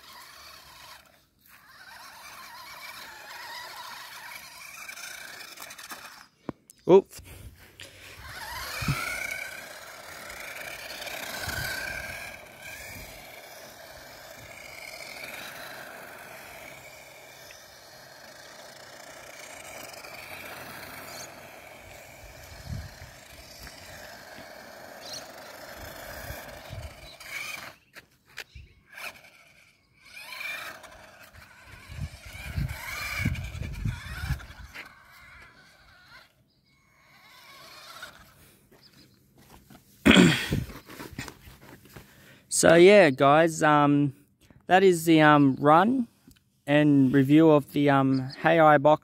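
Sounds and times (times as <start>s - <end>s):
electric motor and gears whine: 0.0s - 6.6s, 7.2s - 42.0s
tyre noise on asphalt: 0.0s - 6.6s, 7.2s - 42.4s.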